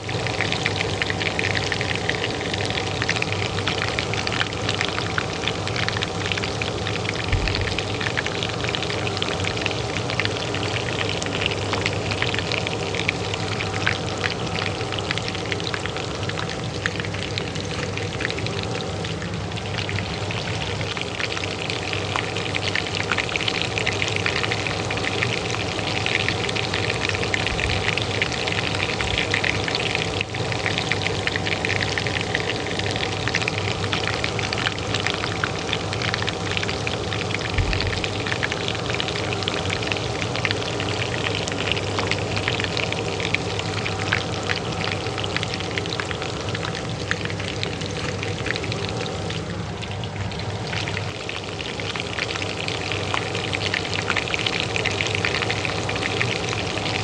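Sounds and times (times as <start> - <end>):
oil sizzling in a pan: 0.0 - 57.0
range hood fan humming: 0.0 - 57.0.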